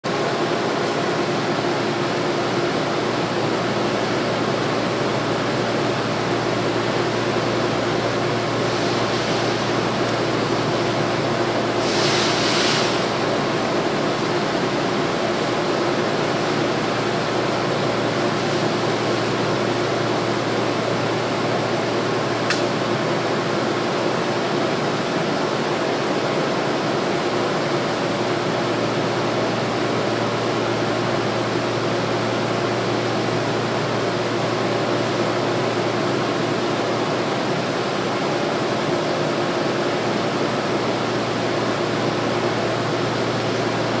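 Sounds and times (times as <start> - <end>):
air-conditioning hum and rush: 0.0 - 44.0.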